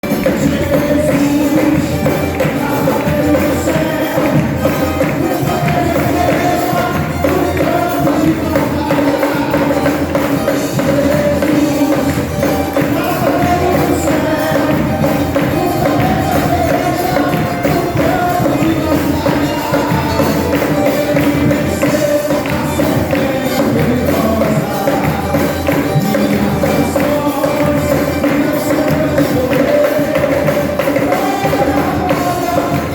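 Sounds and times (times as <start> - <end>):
tambourine jingles: 0.0 - 32.9
worship band playing: 0.0 - 32.9.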